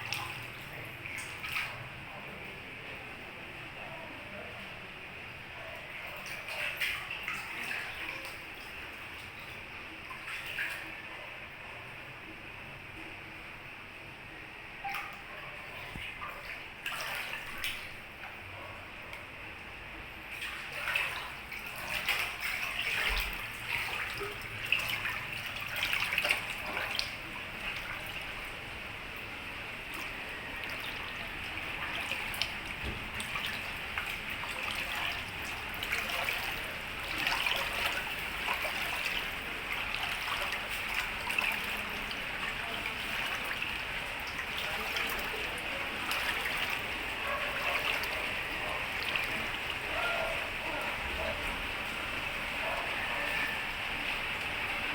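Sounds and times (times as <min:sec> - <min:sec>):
water splashes and drips: 0:00.0 - 0:13.2, 0:14.6 - 0:54.9
floodwater flowing and trickling: 0:00.0 - 0:54.9.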